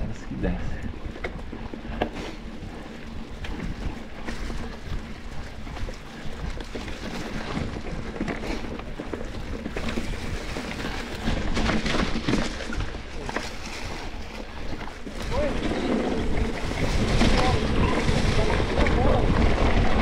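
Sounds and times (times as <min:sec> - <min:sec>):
bike rattling: 0:00.0 - 0:20.0
bike tyre rumble: 0:00.0 - 0:20.0
wind rush on microphone: 0:00.0 - 0:20.0.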